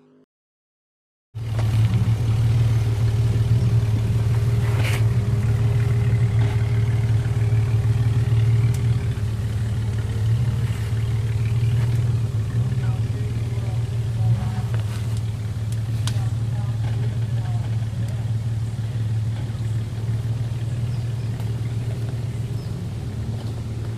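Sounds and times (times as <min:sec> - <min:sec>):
engine running at low revs: 0:01.4 - 0:23.9.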